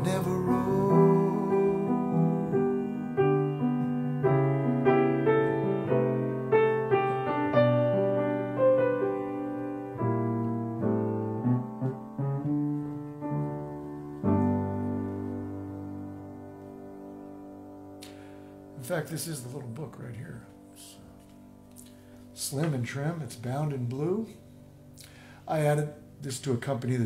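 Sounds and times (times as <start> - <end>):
slow solo piano: 0.0 - 26.9.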